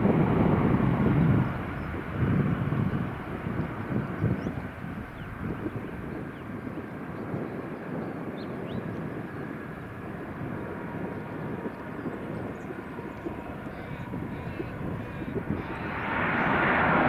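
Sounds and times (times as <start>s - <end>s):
distant jet engine rumble: 0.0s - 17.0s.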